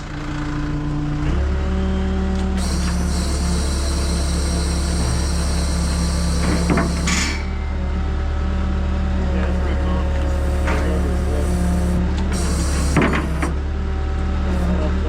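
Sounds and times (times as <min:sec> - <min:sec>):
diesel engine at raised revs: 0:00.0 - 0:15.0.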